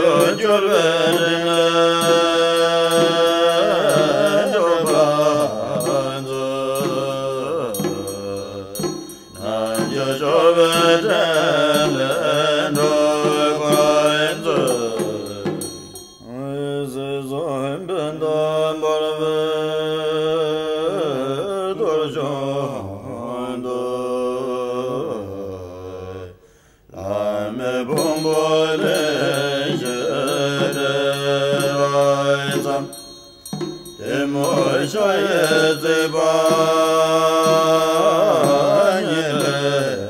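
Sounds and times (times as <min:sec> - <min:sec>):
person chanting a mantra: 0:00.0 - 0:33.1, 0:33.9 - 0:40.0.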